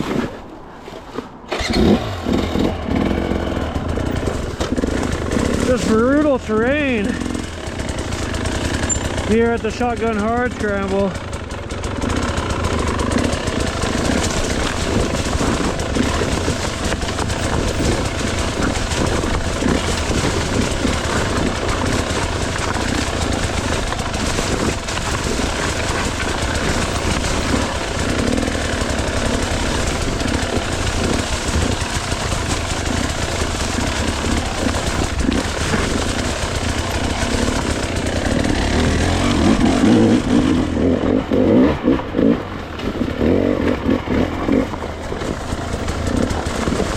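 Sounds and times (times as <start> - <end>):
dirt bike engine revving: 1.5 - 46.9
bike clattering over rocks: 3.8 - 9.4, 10.0 - 46.9.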